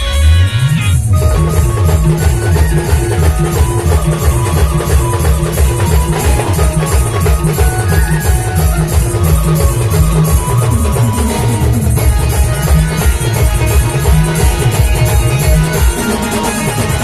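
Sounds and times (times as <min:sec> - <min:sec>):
driving drum beat: 0:00.0 - 0:17.0
repeated band melody: 0:00.0 - 0:17.0.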